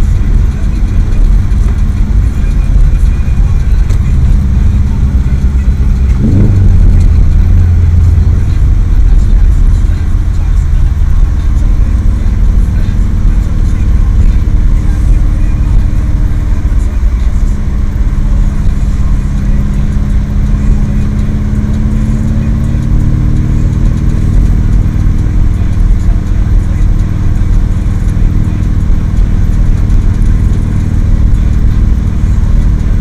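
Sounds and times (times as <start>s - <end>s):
car engine running: 0.0s - 33.0s
road and tyre noise: 0.0s - 33.0s.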